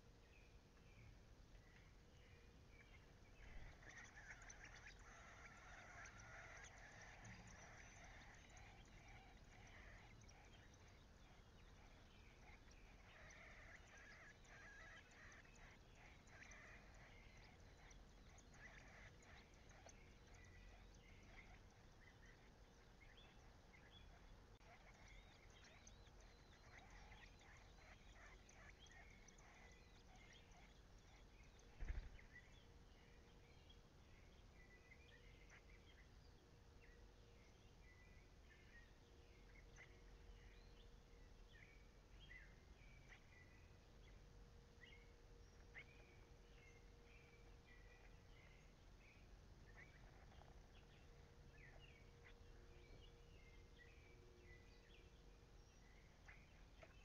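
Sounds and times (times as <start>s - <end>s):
nestlings chirping: 0.0s - 57.0s.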